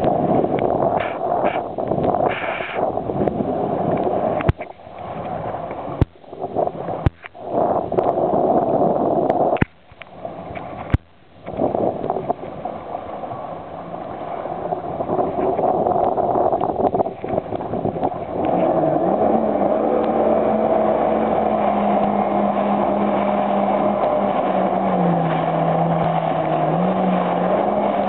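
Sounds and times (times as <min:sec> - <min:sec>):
jet ski engine and spray: 0:00.0 - 0:28.0.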